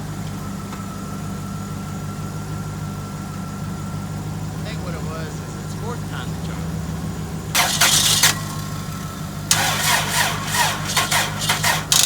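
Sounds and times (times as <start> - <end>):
car starter cranking: 0.0 - 12.0
low engine idle: 0.0 - 12.0.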